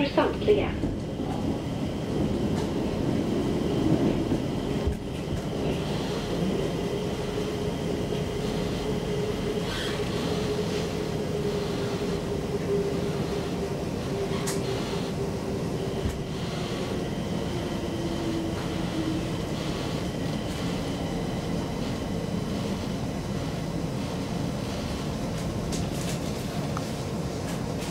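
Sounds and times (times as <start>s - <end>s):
train rumbling along track: 0.0s - 27.9s
train motor whine: 1.1s - 26.8s.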